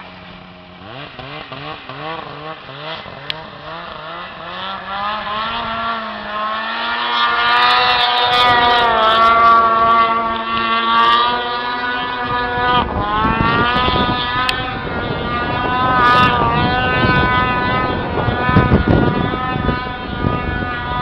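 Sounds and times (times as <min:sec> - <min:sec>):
snowmobile engine at high revs: 0:00.0 - 0:21.0.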